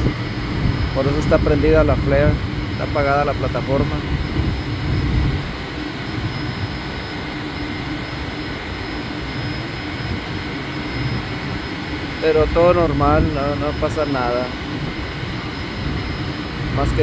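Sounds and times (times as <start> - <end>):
faint high whine: 0.0 - 17.0
gas flare roaring: 0.0 - 17.0
steady hum: 0.0 - 17.0.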